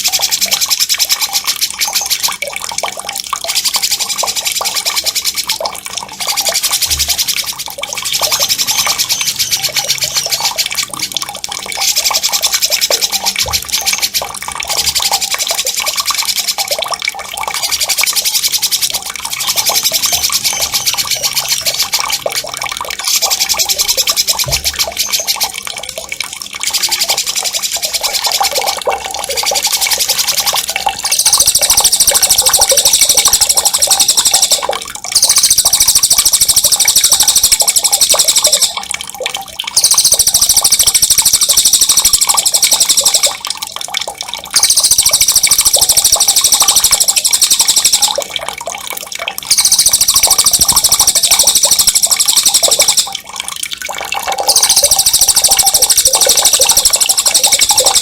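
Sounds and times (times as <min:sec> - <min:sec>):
water trickling: 0:00.0 - 0:58.0
songbird fast trill: 0:03.4 - 0:16.8, 0:17.4 - 0:25.6, 0:26.7 - 0:38.9, 0:39.7 - 0:43.4, 0:44.6 - 0:48.3, 0:49.4 - 0:53.2, 0:54.4 - 0:58.0.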